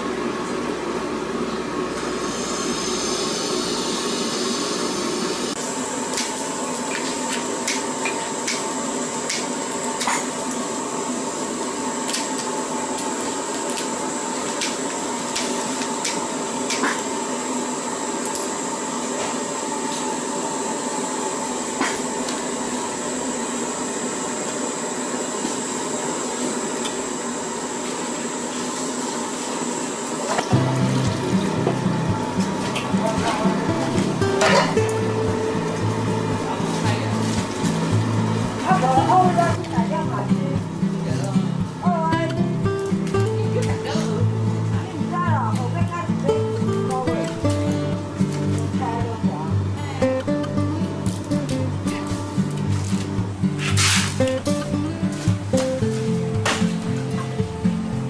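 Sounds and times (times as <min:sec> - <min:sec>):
mechanical whir with high whine: 0:00.0 - 0:46.7.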